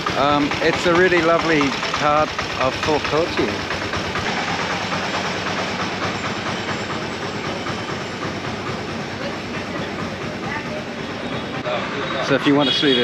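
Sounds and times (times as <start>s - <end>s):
engine running with rattling noise: 0.0s - 13.0s.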